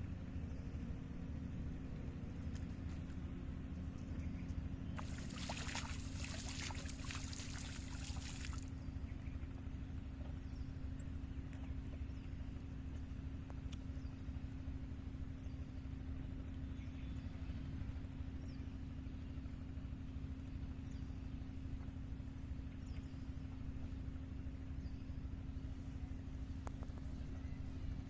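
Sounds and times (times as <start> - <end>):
small engine droning: 0.0 - 28.0.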